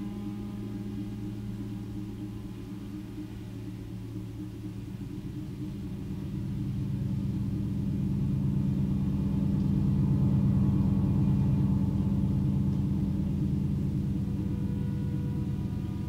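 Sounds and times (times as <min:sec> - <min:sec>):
electronic synthesizer drone: 0:00.0 - 0:16.0.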